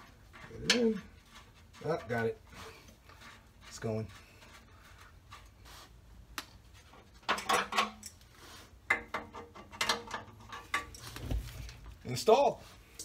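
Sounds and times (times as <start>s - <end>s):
metallic clinking and scraping: 0.0s - 5.9s, 6.5s - 13.0s.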